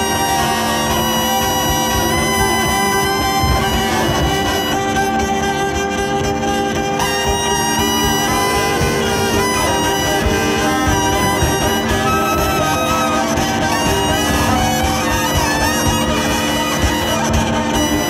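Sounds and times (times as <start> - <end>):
double bass: 0.0 - 18.0
held overlapping tones: 0.0 - 18.0
wind instrument: 0.0 - 18.0.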